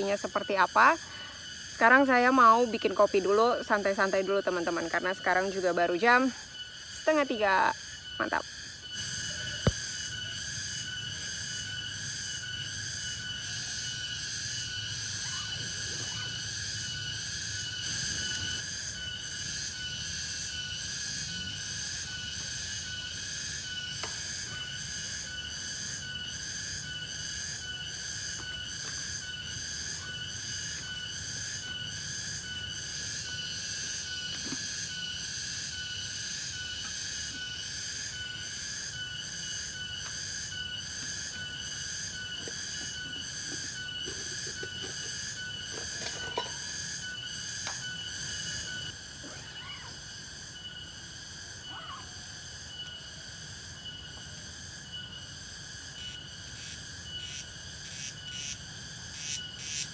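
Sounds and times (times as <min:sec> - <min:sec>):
insects shrilling: 0:00.0 - 0:59.9.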